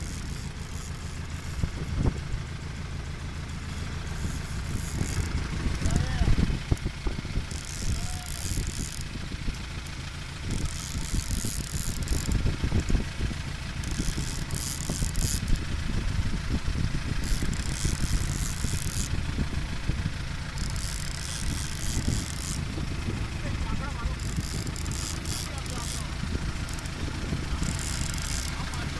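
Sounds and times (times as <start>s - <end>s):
boat engine rumbling: 0.0s - 28.9s.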